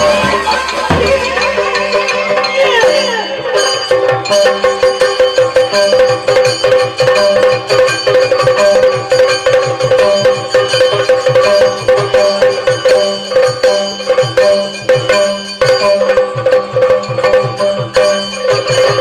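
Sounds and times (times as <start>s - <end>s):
drum beaten fast with sticks: 0.0s - 19.0s
hand drum: 0.0s - 19.0s
small hand cymbals: 0.0s - 19.0s.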